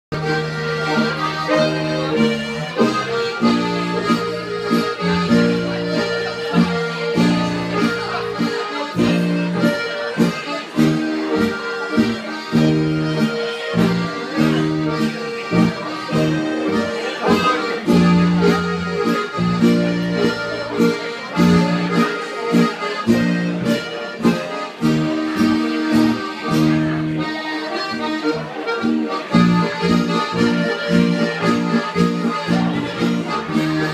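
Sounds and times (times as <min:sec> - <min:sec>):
accordions: 0:00.1 - 0:33.9
acoustic guitar: 0:00.1 - 0:33.9
keyboard: 0:00.1 - 0:33.9
steady beat: 0:00.2 - 0:33.9.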